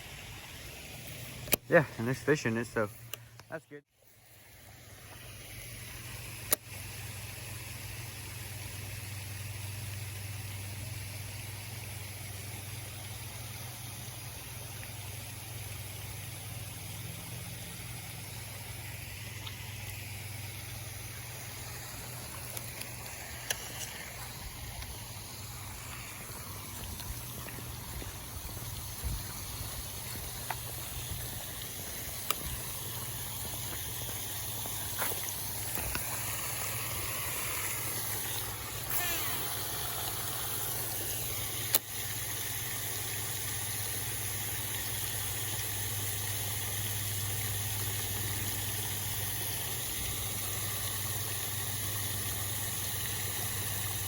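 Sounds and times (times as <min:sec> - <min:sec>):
high hiss: 0:00.0 - 0:54.0
low mechanical hum: 0:00.0 - 0:54.0.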